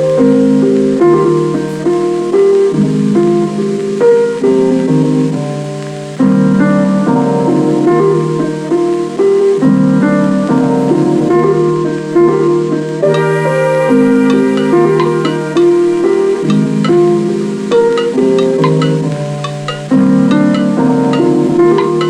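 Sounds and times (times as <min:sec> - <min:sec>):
piano music through speaker: 0:00.0 - 0:22.0.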